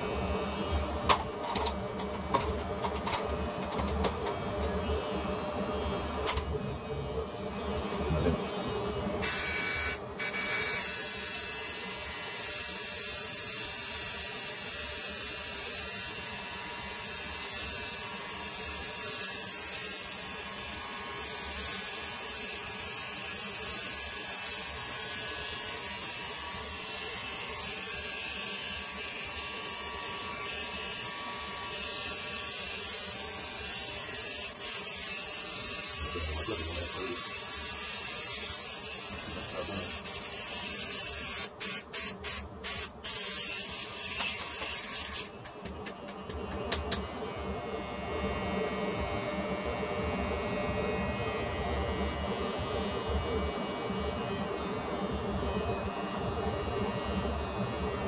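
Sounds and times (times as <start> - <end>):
electric hair clippers running: 7.7 - 58.0.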